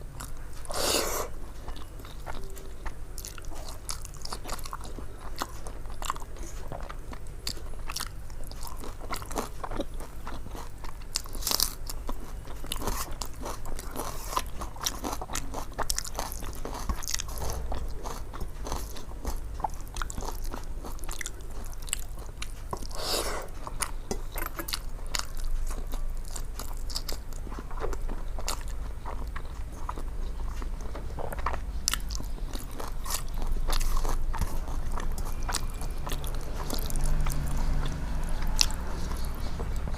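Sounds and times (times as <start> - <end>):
low steady hum: 0.0 - 39.9
person chewing crunchy food: 0.0 - 39.9.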